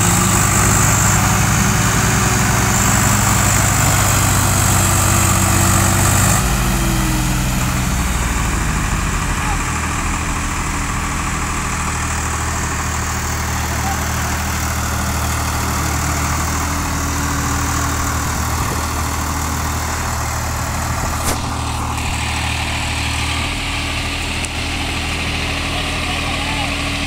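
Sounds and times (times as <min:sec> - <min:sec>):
tractor diesel engines running: 0:00.0 - 0:27.0.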